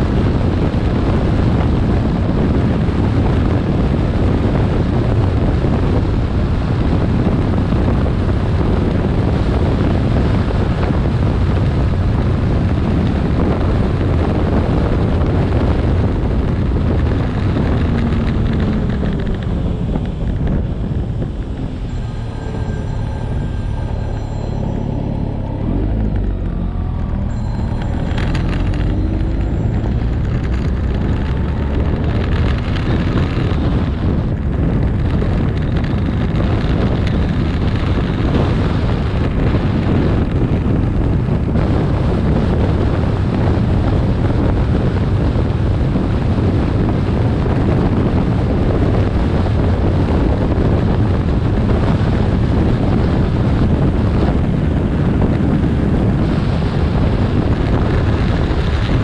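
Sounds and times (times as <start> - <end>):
motorcycle engine: 0.0 - 59.0
wind rushing over microphone: 0.0 - 59.0.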